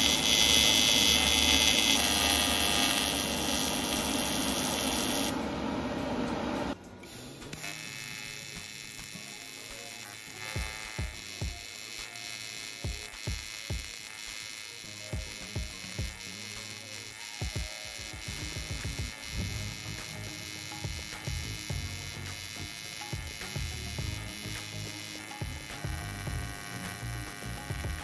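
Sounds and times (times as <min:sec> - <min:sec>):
welding arc buzz with thumps: 0:00.0 - 0:28.0.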